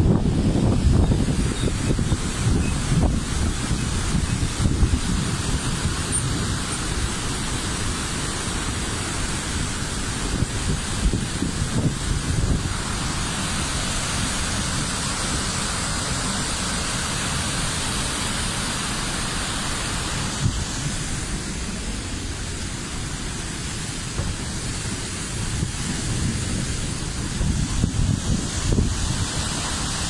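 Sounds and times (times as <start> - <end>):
waterfall roaring: 0.0 - 30.0.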